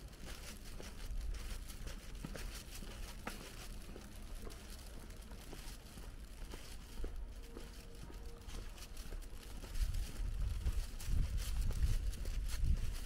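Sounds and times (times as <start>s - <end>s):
footsteps on pavement: 0.0s - 13.0s
steady low rumble: 0.0s - 13.0s.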